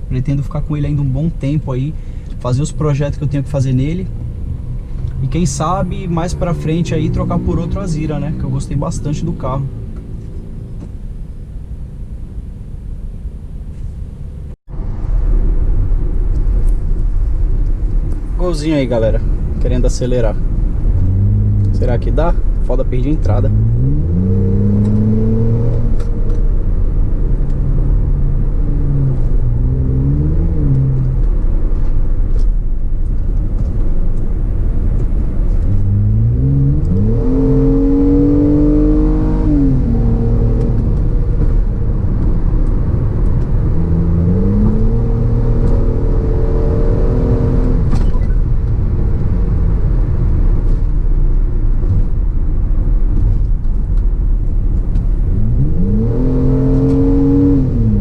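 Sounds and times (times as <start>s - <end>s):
car engine accelerating: 2.7s - 13.2s, 14.2s - 58.0s.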